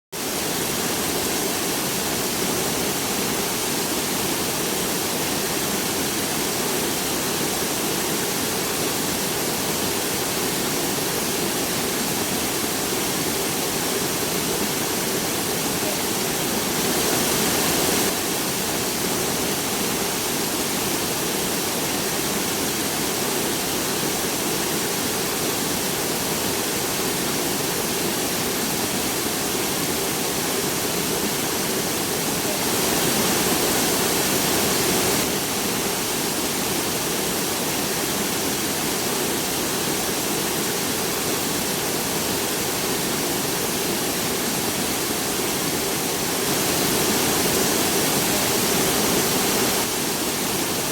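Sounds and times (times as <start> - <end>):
steady rain falling: 0.2 - 50.9.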